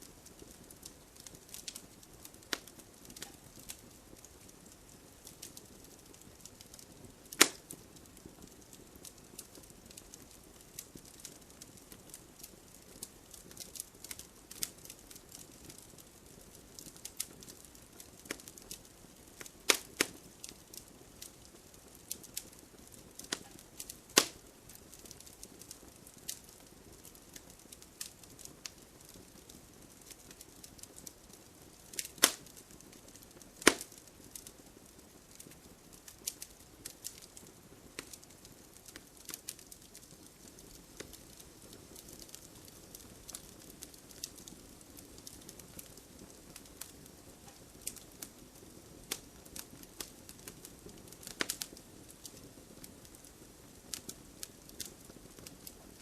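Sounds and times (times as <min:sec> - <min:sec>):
loud fire pops: 0:00.0 - 0:53.2
wood fire crackling: 0:00.0 - 0:56.0.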